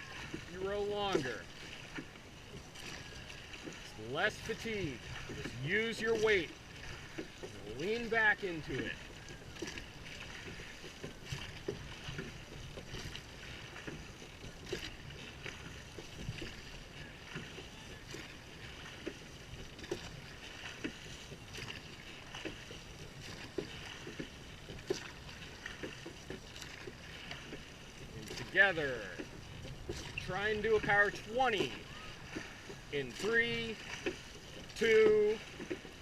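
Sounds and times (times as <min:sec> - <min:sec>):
oars splashing through water: 0:00.0 - 0:36.0
rushing water: 0:00.0 - 0:36.0
wind: 0:00.0 - 0:36.0.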